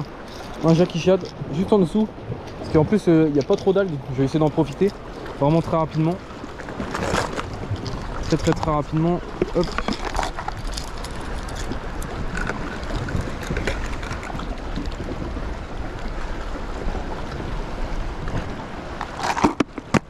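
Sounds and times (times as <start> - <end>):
sea waves against rocks: 0.0 - 20.0
wind buffeting microphone: 0.0 - 20.0.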